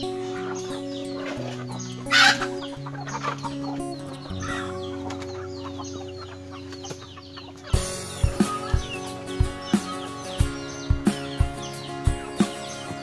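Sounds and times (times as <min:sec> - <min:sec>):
background music with held notes: 0:00.0 - 0:13.0
chickens clucking: 0:00.0 - 0:13.0.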